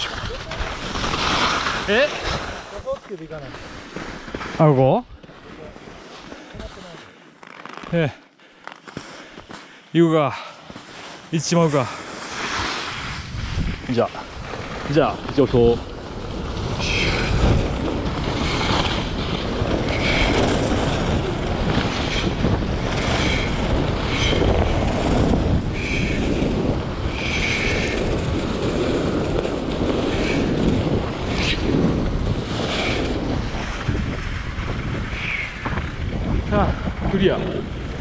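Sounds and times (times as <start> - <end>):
wind rushing over microphone: 0.0 - 7.0, 11.3 - 38.0
ski edges scraping snow: 0.0 - 38.0.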